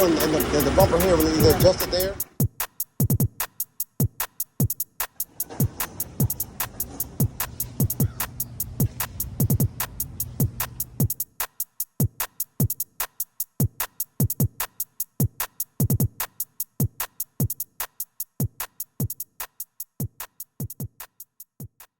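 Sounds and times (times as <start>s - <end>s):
electronic drum machine beat: 0.0s - 21.9s.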